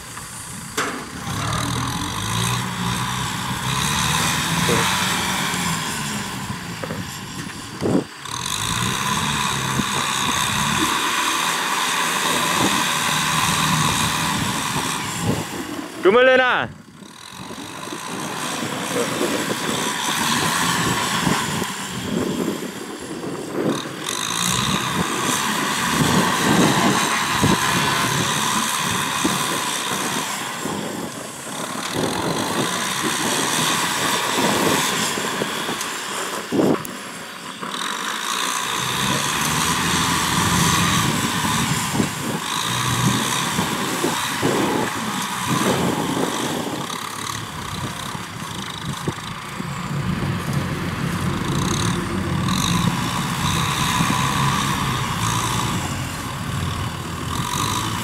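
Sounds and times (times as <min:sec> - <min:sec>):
tractor diesel engine running: 0:00.0 - 0:58.0
rotary tiller churning soil: 0:00.1 - 0:58.0.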